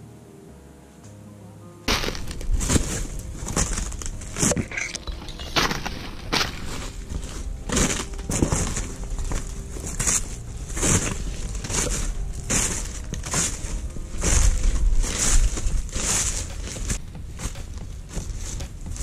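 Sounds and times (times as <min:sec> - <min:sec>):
footsteps crunching dry leaves: 0:01.9 - 0:19.0
twigs snapping: 0:01.9 - 0:19.0.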